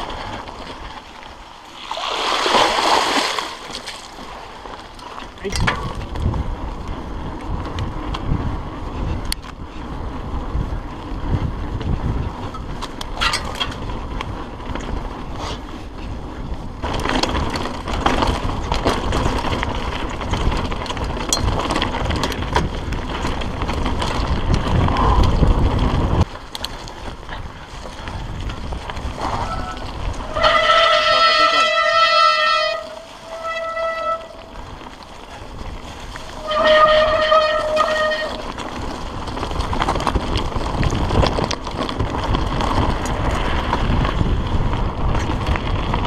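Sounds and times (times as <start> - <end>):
bike rattling over bumps: 0.0 - 46.0
bike tyres rumbling over ground: 0.0 - 46.0
wind buffeting microphone: 0.0 - 46.0.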